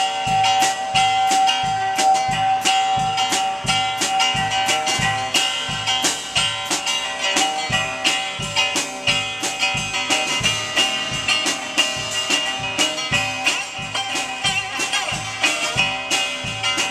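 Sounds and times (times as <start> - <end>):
loud electric guitar: 0.0 - 16.9
steady drum beat: 0.0 - 16.9.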